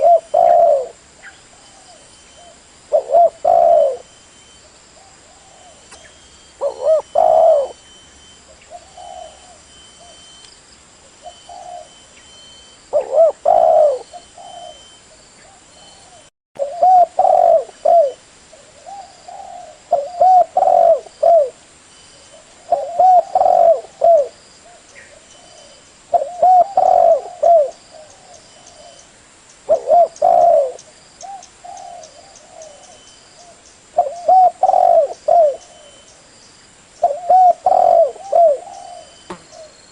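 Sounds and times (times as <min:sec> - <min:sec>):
dove cooing: 0:00.0 - 0:10.3, 0:11.2 - 0:12.0, 0:12.9 - 0:21.6, 0:22.2 - 0:29.0, 0:29.7 - 0:36.2, 0:37.0 - 0:39.8.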